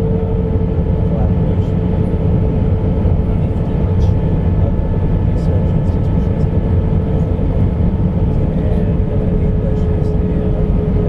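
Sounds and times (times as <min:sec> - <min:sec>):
roar of engines and airflow: 0:00.0 - 0:11.0
steady hum: 0:00.0 - 0:11.0.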